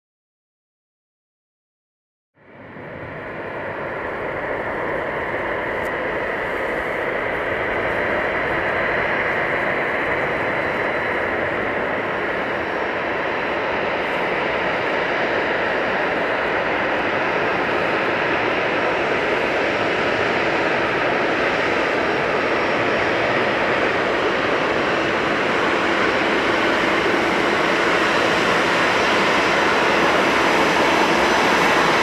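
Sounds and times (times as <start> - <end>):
faint high engine whine: 2.4 - 32.0
jet engines rushing: 2.6 - 32.0.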